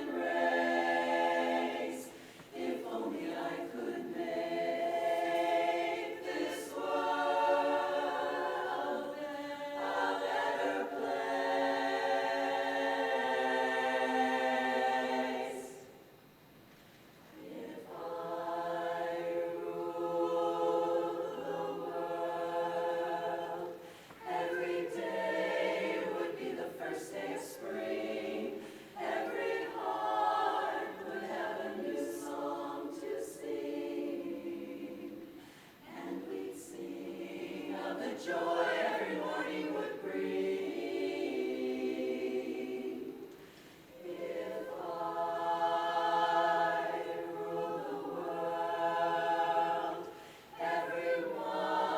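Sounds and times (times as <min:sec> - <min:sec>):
chorus singing in close harmony: 0:00.0 - 0:16.0, 0:17.4 - 0:51.9.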